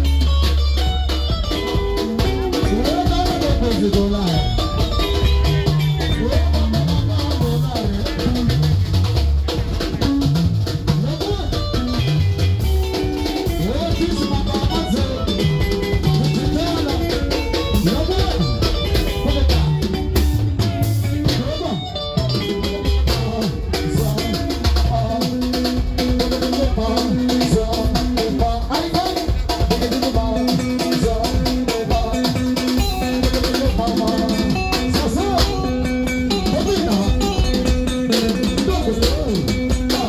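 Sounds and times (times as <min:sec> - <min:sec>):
bass: 0:00.0 - 0:40.0
drum kit steady beat: 0:00.0 - 0:40.0
electric guitar lines: 0:00.0 - 0:40.0.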